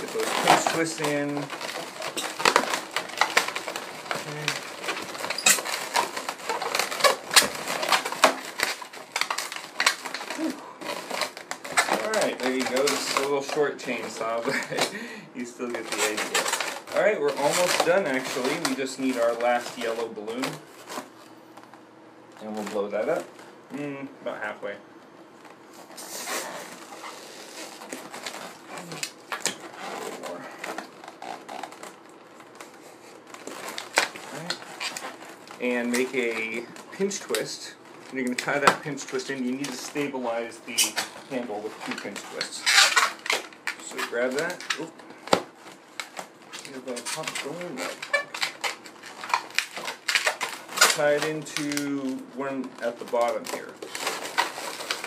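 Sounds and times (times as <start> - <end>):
balloons squeaking and creaking: 0.0 - 21.4, 22.3 - 24.8, 25.4 - 55.0.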